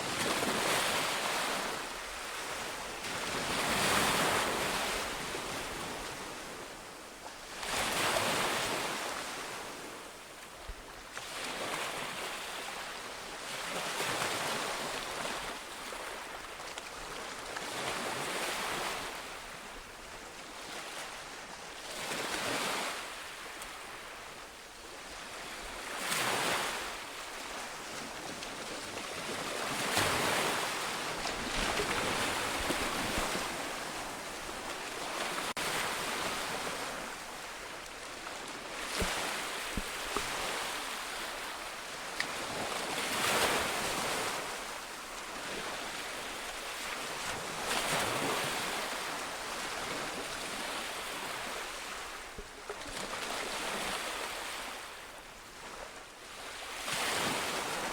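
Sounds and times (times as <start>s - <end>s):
sea waves breaking on shore: 0.0s - 10.2s, 11.1s - 57.9s.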